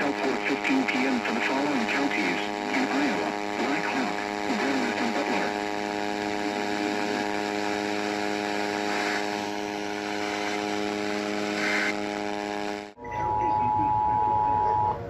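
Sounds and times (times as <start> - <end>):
electrical buzzing hum: 0.0 - 15.0.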